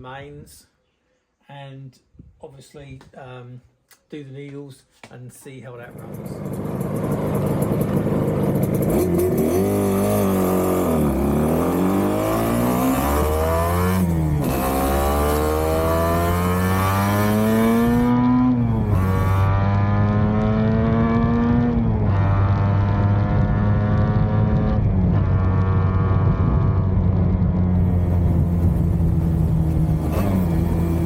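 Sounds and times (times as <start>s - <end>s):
motorcycle engine accelerating: 5.9s - 31.0s.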